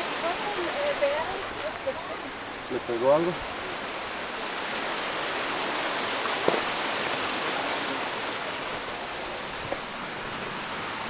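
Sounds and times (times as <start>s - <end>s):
rushing mountain creek: 0.0s - 11.0s.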